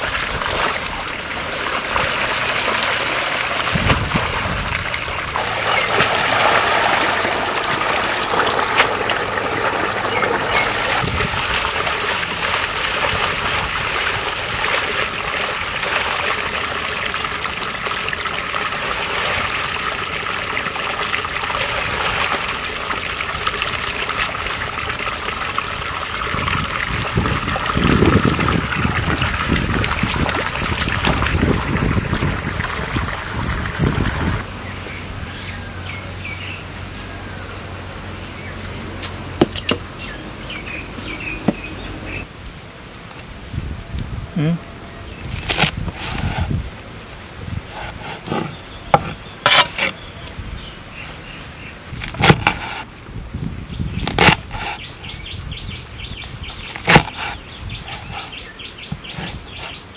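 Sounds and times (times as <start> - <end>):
water trickling and splashing: 0.0 - 35.1, 45.1 - 59.9.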